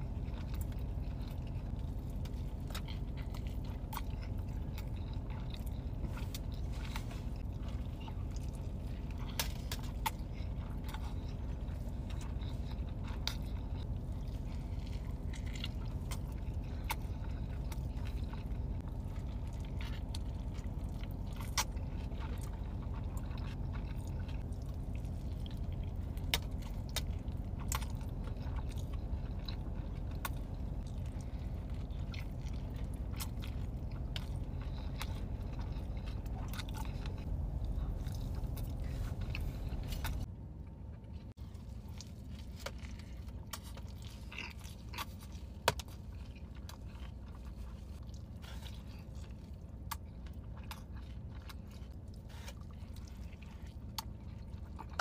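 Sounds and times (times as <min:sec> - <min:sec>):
low hum: 0:00.0 - 0:55.0
person chewing food: 0:00.0 - 0:55.0.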